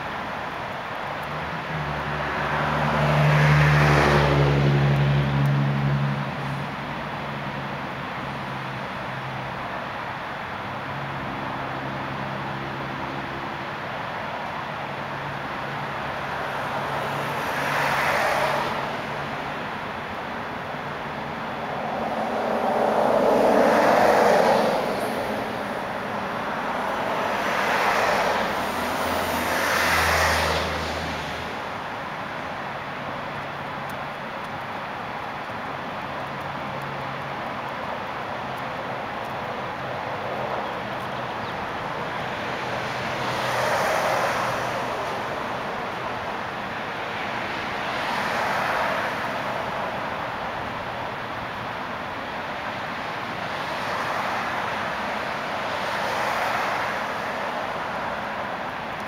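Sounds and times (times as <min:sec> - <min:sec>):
cars driving past: 0:00.0 - 0:59.0
street traffic noise: 0:00.0 - 0:59.0
vehicles passing: 0:00.0 - 0:59.0.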